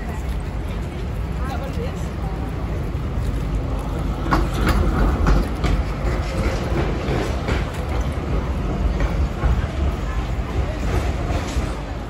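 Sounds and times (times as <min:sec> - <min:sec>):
trams rumbling: 0:00.0 - 0:12.0.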